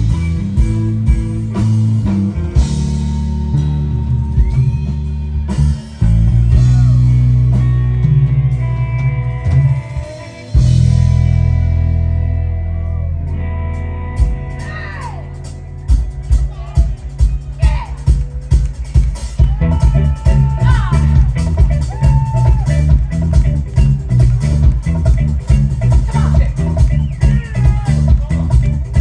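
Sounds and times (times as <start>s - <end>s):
drum kit: 0.0s - 12.4s, 14.2s - 29.0s
electric bass deep notes: 0.0s - 29.0s
electric guitar: 0.0s - 29.0s.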